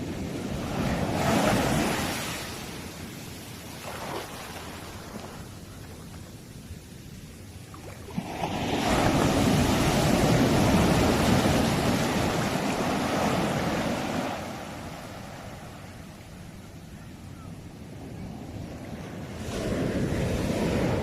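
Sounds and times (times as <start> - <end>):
sea waves surging: 0.0 - 6.2, 7.6 - 16.4, 17.8 - 21.0
low wash of surf: 0.0 - 21.0.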